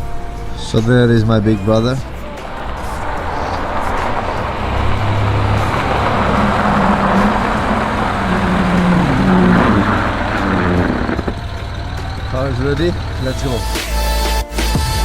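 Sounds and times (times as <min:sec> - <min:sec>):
steady rushing noise: 0:00.0 - 0:14.1
car engine hum: 0:00.0 - 0:15.0.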